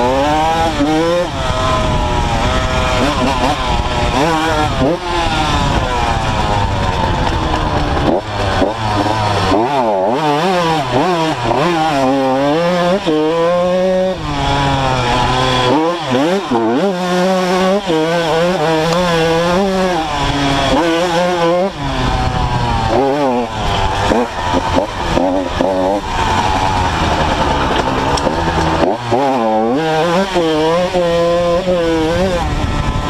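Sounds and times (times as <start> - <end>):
motocross bike engine revving: 0.0 - 33.0.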